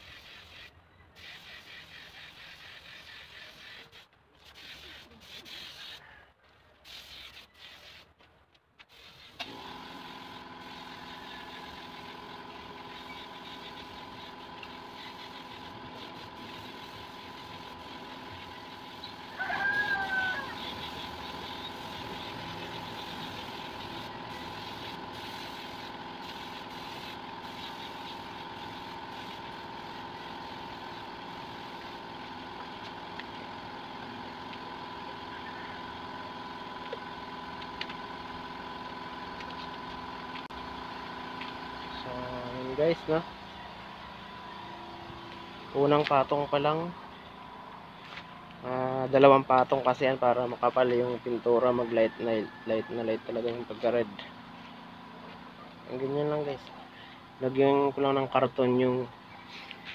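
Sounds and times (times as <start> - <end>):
air compressor motor running: 9.0 - 58.5.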